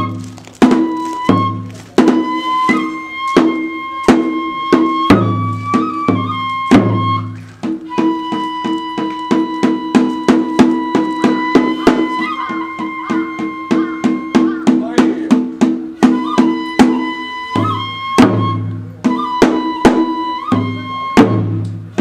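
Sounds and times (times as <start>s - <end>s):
bamboo flute high note: 0.0s - 14.8s, 16.0s - 21.5s
drums beating: 0.0s - 22.0s.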